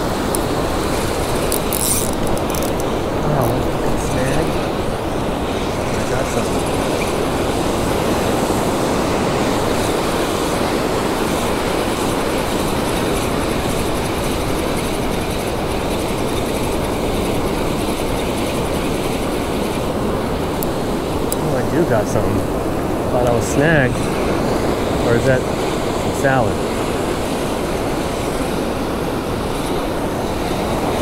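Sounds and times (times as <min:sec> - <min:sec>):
surf breaking on shore: 0:00.0 - 0:31.0.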